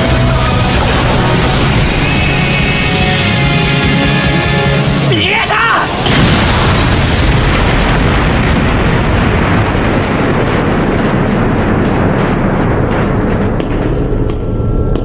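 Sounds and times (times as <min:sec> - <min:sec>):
rumbling explosion blast: 0:00.0 - 0:15.0.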